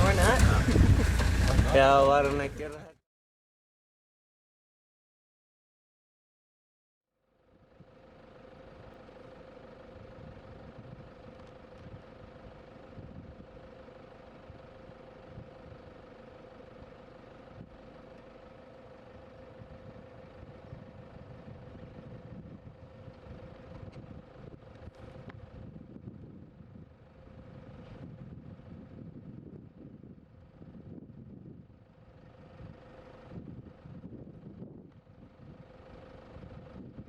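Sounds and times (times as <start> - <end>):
vehicle engine idling: 0.0 - 2.9, 7.2 - 37.0.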